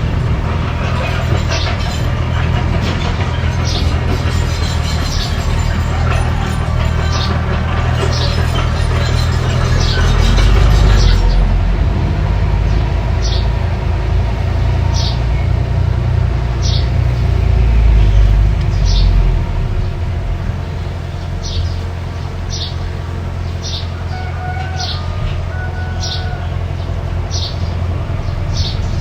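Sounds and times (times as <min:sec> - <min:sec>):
bulldozer engine rumbling: 0:00.0 - 0:29.0.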